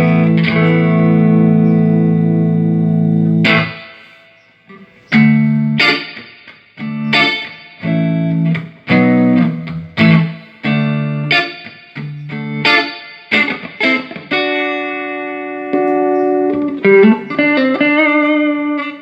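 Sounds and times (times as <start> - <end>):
electric guitar strummed chords: 0.0 - 19.0.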